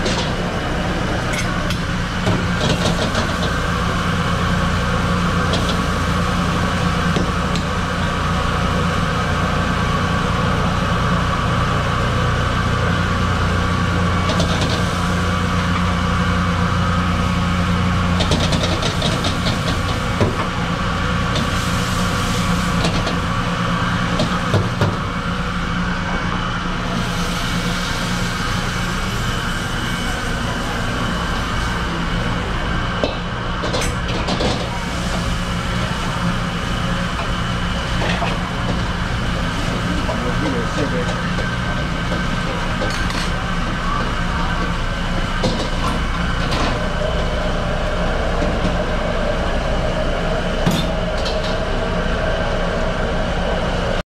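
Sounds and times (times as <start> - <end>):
gas wok range roaring: 0.0 - 54.0.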